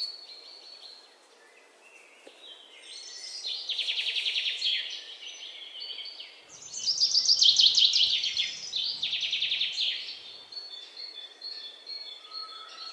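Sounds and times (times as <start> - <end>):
birds singing trills: 0.0 - 12.9.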